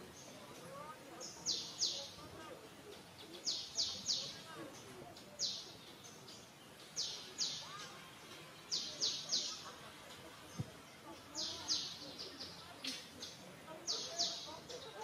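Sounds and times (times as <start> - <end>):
bird chirping: 0.0 - 2.2, 2.8 - 15.0
background murmur: 0.0 - 15.0.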